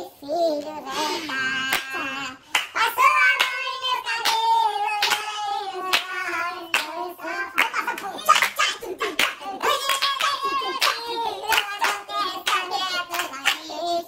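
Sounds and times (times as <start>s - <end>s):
hand claps: 1.7s - 7.0s, 7.6s - 13.8s.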